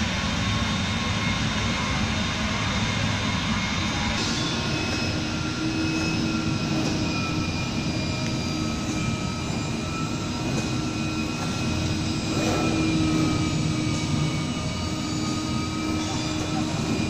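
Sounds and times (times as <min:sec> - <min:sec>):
cutting machine hum and whine: 0:00.0 - 0:17.0.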